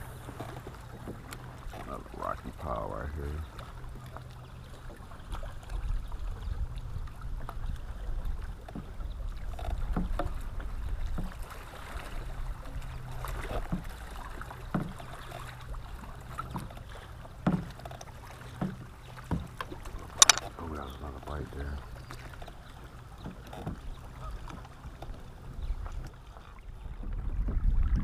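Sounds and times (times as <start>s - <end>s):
light knocks against boat: 0.0s - 2.8s, 3.4s - 26.2s
water lapping against hull: 0.0s - 28.0s.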